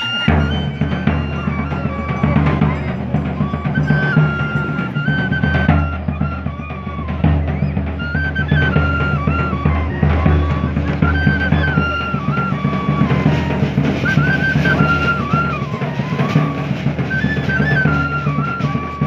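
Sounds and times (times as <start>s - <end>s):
flute melody: 0.0s - 19.0s.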